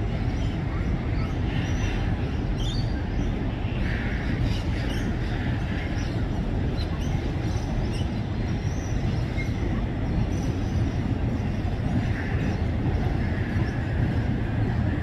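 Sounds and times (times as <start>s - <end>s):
train rumbling across bridge: 0.0s - 15.0s.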